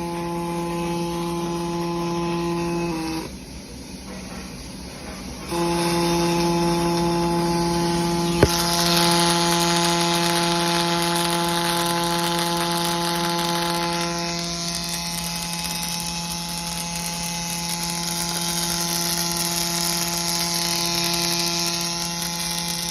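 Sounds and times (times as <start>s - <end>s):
welding buzz with hiss: 0.0s - 22.9s.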